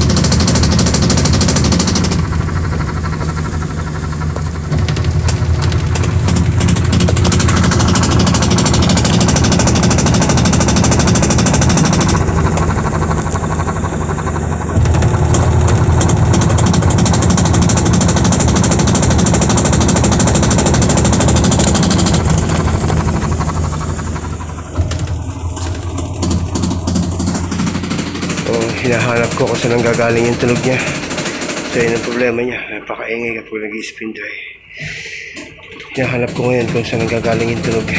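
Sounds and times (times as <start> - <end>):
washing machine spin knocking rattle: 0.0 - 32.4, 35.3 - 37.9.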